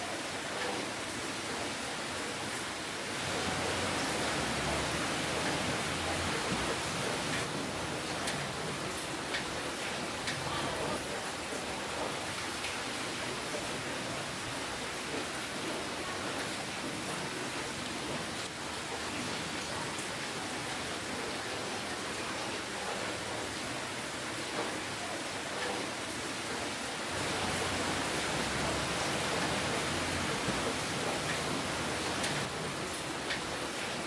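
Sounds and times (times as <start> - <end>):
steady rainfall: 0.0 - 34.0.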